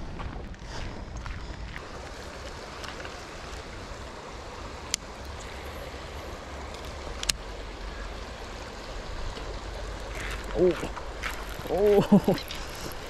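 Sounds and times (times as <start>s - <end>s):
creek water running over riffle: 0.6s - 13.0s.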